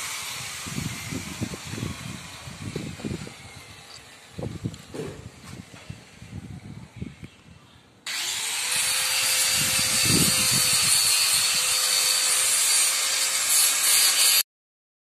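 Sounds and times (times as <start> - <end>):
power tool whining: 0.0 - 7.1, 8.1 - 14.4.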